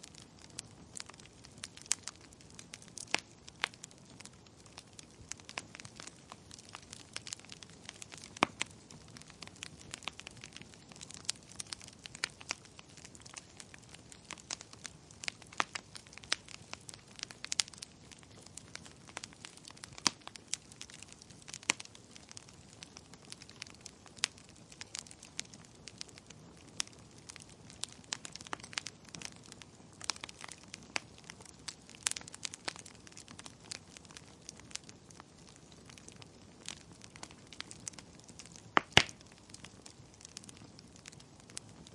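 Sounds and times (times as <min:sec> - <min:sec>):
faint steady hiss: 0:00.0 - 0:41.9
wood fire crackling and popping: 0:00.0 - 0:41.9.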